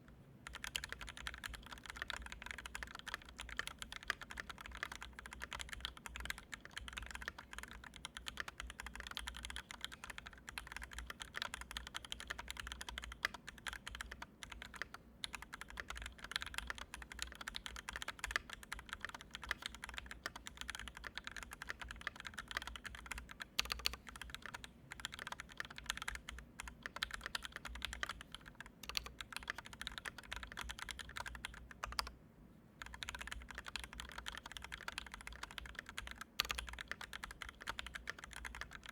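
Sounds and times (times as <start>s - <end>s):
fast typing on mechanical keyboard: 0.4s - 32.1s, 32.8s - 38.9s.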